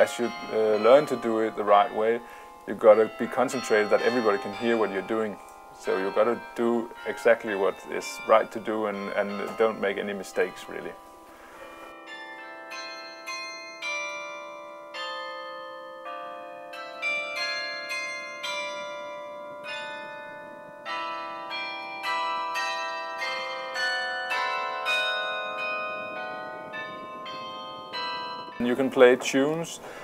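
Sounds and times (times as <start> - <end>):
carillon bells playing a melody: 0.0 - 30.0.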